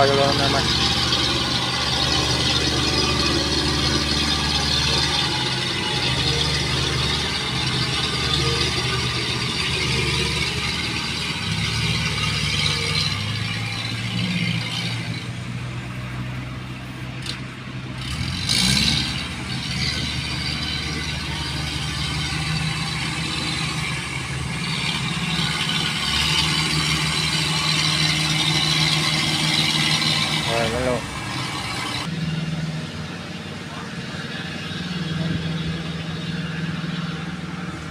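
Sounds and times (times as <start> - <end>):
farm machinery engines running: 0.0 - 37.9.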